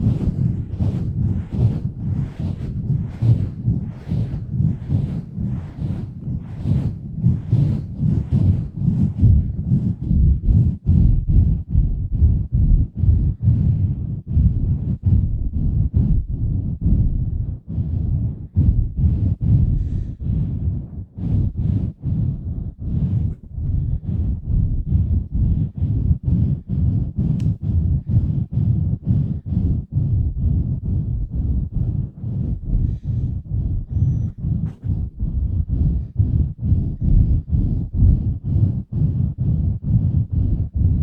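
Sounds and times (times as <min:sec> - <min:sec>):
muffled whooshes on microphone: 0:00.0 - 0:41.0.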